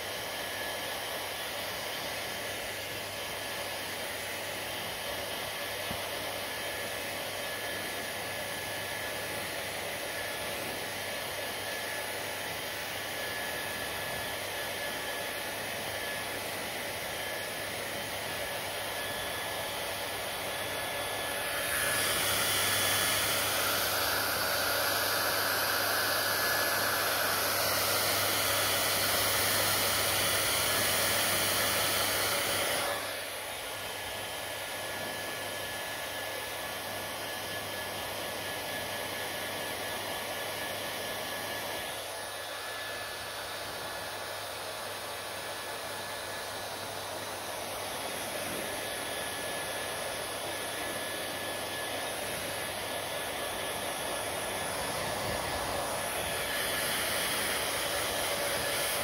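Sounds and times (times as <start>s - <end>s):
hair dryer blowing: 0.0s - 59.0s.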